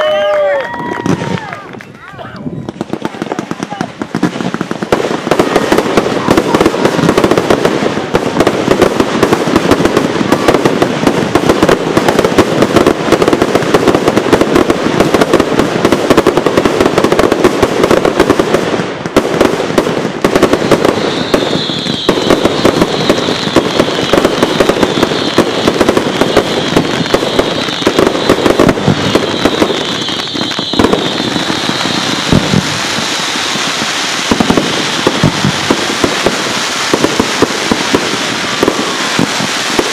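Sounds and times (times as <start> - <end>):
fireworks popping and crackling: 0.0 - 39.9.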